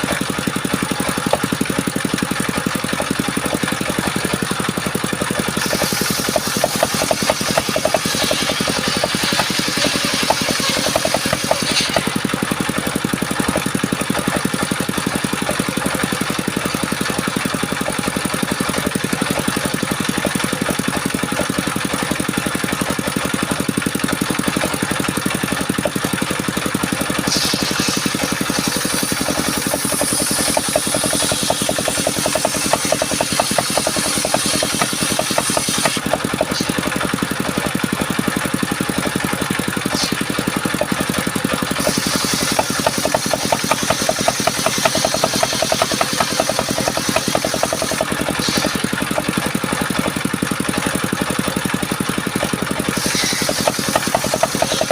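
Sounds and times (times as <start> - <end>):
saw machine engine running: 0.0 - 54.9.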